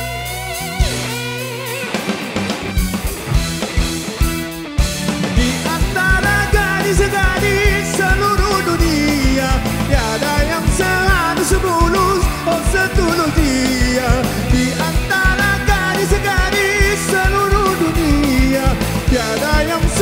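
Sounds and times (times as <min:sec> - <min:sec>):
live band playing pop music: 0:00.0 - 0:20.0.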